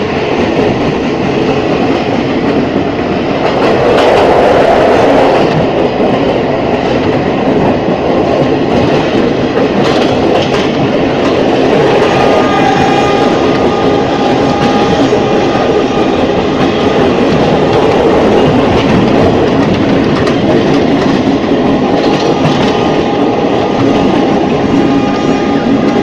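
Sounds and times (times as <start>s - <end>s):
rail joint clicks: 0.0s - 26.0s
train rolling rumble: 0.0s - 26.0s.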